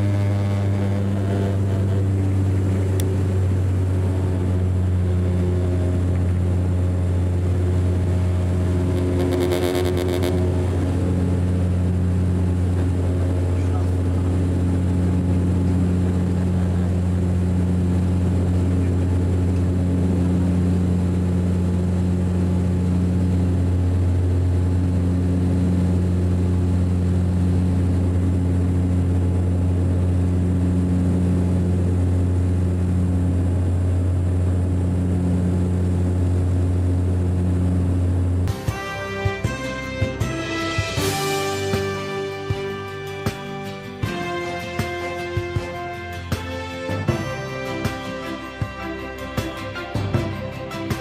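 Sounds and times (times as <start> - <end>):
turboprop cabin drone: 0.0 - 51.0.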